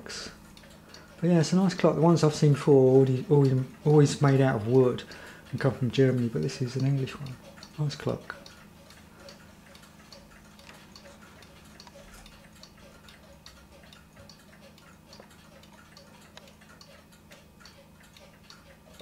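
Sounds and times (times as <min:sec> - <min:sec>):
clock ticking: 0:00.0 - 0:19.0
low steady hum: 0:00.0 - 0:19.0.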